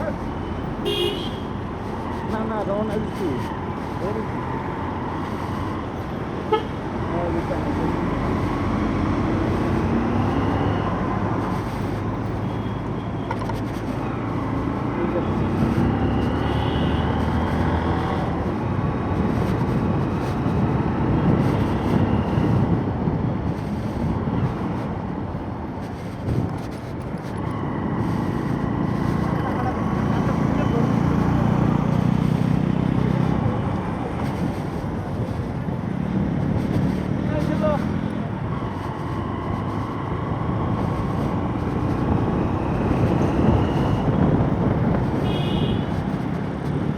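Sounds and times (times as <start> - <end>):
motorcycle engine rumble: 5.0 - 46.9.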